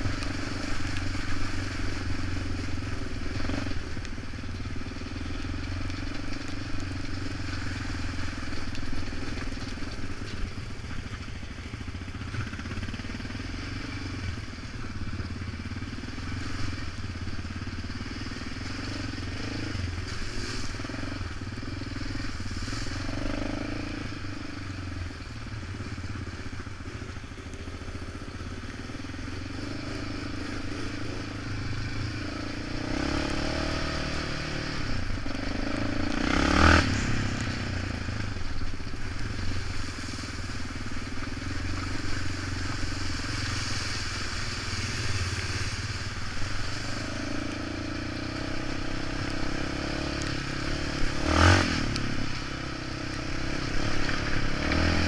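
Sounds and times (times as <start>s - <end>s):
atv engine running: 0.0s - 55.0s
tyres on wet gravel: 0.0s - 55.0s.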